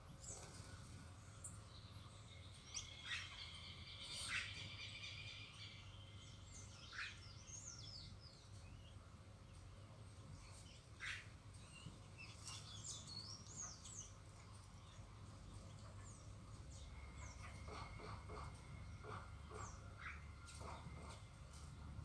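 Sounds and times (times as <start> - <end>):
faint songbirds calling: 0.0 - 22.0.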